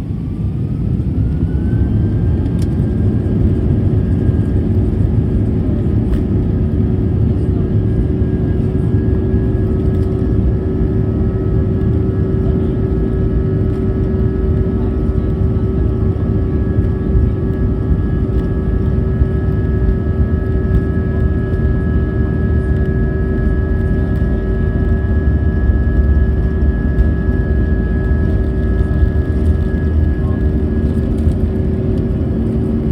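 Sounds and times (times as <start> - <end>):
engine whine: 0.0 - 32.9
jet engine and airflow rumble: 0.0 - 32.9.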